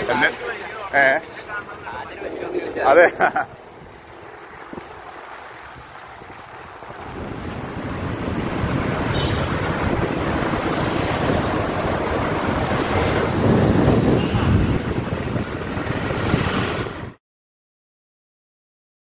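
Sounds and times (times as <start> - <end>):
road traffic: 0.0 - 17.2
wind rushing over microphone: 0.0 - 17.2.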